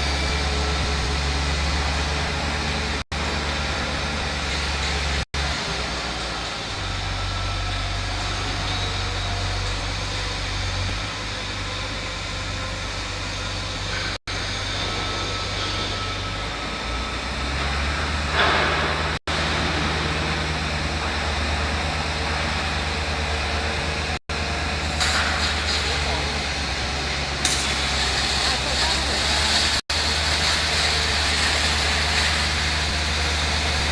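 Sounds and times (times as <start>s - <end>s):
truck engine droning: 0.0s - 33.9s.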